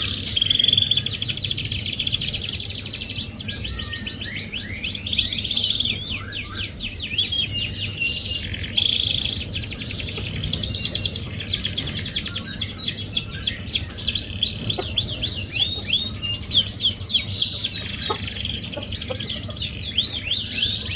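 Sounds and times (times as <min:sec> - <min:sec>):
canary singing in trills: 0:00.0 - 0:20.9.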